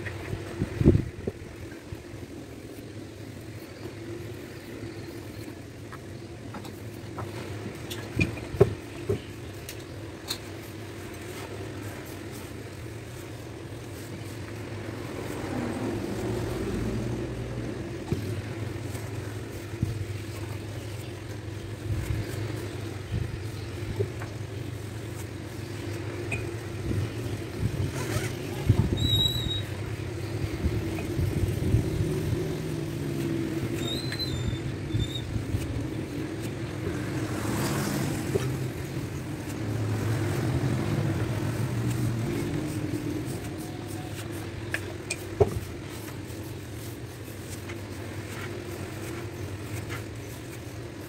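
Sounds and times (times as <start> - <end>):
low engine-like rumble: 0.0 - 51.0.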